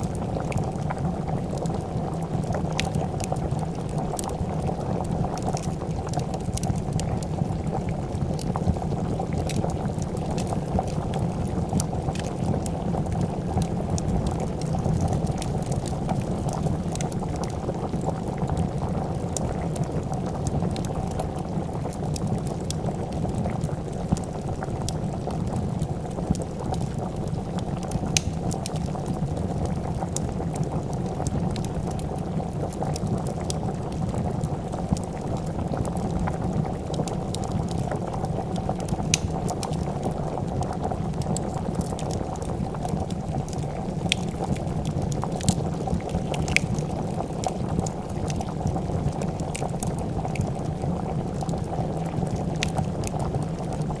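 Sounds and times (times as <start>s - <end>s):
soup bubbling at a boil: 0.0s - 54.0s
wood fire crackling: 0.0s - 54.0s.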